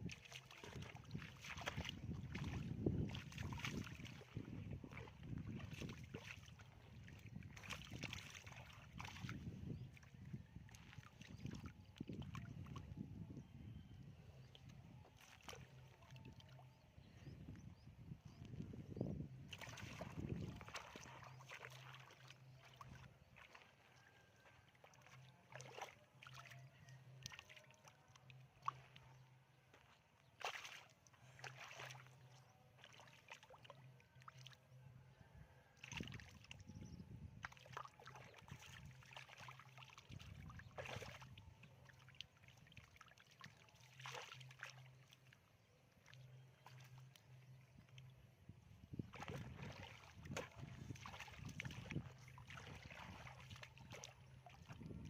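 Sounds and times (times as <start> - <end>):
water sloshing and splashing: 0.0 - 13.0, 14.4 - 17.3, 19.5 - 34.7, 35.8 - 55.0.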